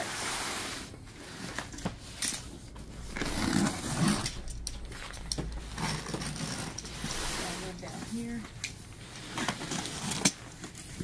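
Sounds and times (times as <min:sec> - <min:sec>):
cardboard rustling and scraping: 0:00.0 - 0:11.0.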